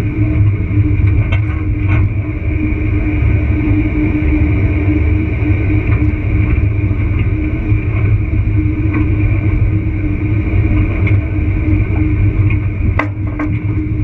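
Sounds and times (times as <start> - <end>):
vehicle on dirt road: 0.0 - 14.0.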